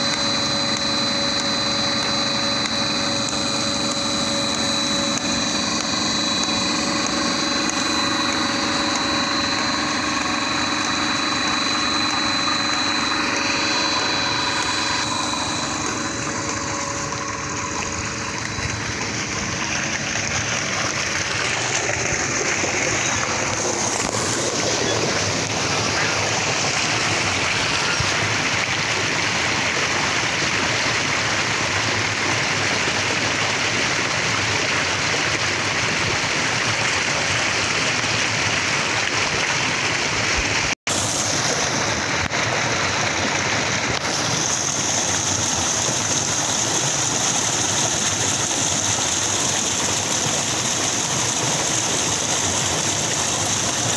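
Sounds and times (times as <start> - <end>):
water gushing into tank: 0.0 - 53.9.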